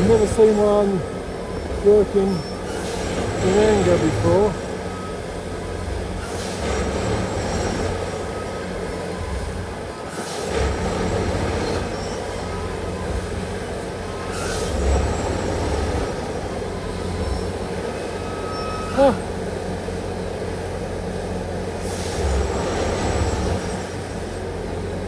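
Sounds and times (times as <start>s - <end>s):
track machine engine humming: 0.0s - 25.0s.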